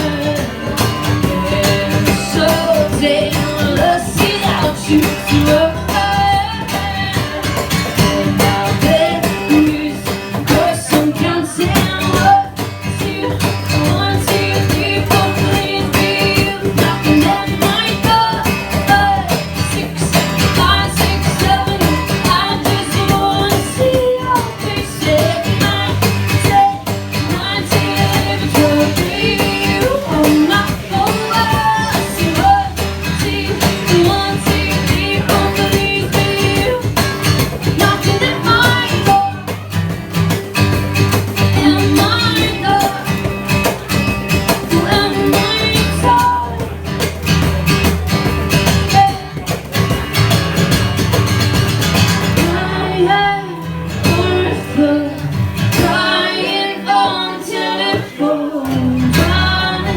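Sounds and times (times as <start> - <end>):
female voices singing: 0.0 - 39.9, 41.3 - 46.8, 51.9 - 59.9
guitar: 0.0 - 59.9.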